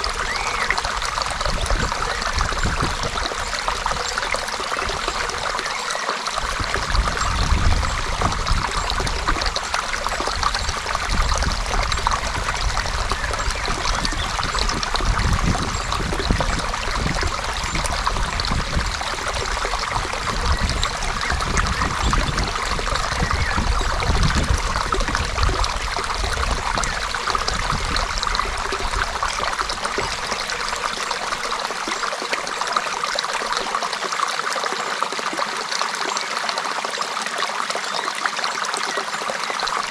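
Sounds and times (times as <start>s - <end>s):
creek water trickling over stones: 0.0s - 39.9s.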